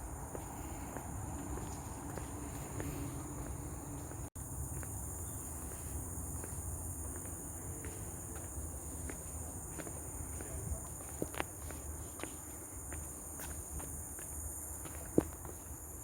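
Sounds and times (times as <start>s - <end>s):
footsteps on trail: 0.0s - 16.0s
insect chorus: 0.0s - 16.0s.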